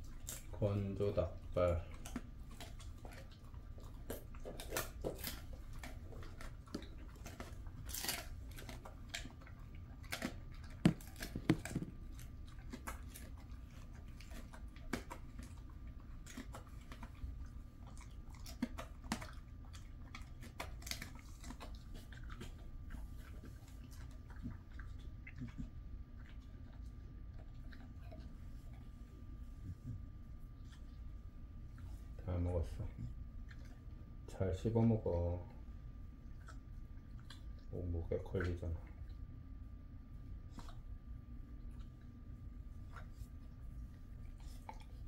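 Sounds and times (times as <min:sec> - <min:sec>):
dog chewing bone: 0:00.0 - 0:45.0.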